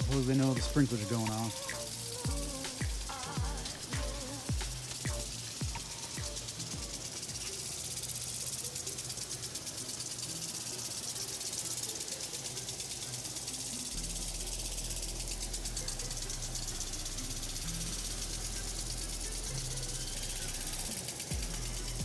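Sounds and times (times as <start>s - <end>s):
lawn sprinklers spraying: 0.0s - 22.0s.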